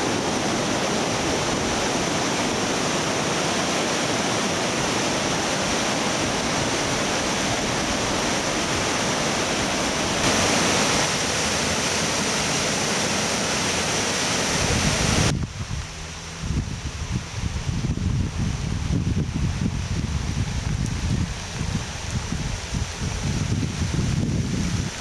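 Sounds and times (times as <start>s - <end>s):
water rushing through dam gates: 0.0s - 25.0s.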